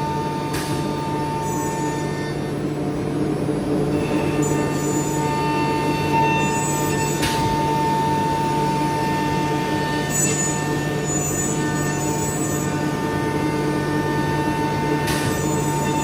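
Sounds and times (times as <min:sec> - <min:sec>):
woodworking machinery running: 0:00.0 - 0:16.0.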